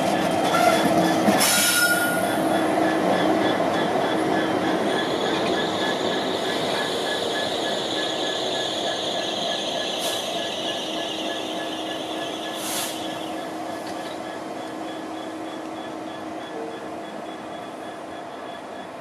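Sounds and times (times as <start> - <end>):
train wheels on rails: 0.0 - 19.0
high wheel squeal: 0.1 - 19.0.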